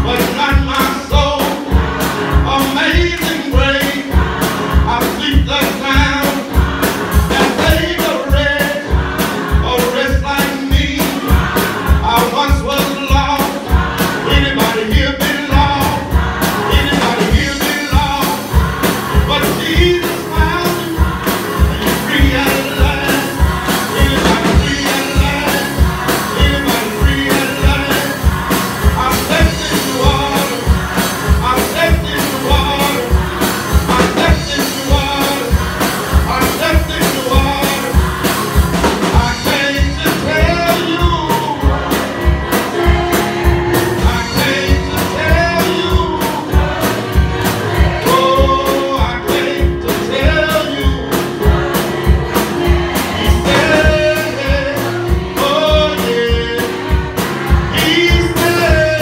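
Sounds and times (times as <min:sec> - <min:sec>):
gospel choir singing: 0:00.0 - 0:59.0.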